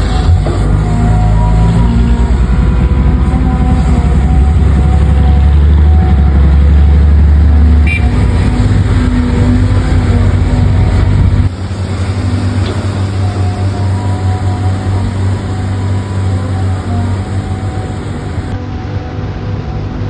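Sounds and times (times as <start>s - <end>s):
truck diesel engine running: 0.0s - 18.6s.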